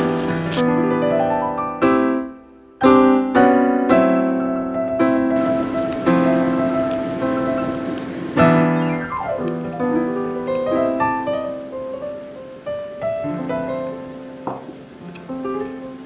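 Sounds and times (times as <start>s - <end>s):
gentle solo piano music: 0.0s - 16.0s.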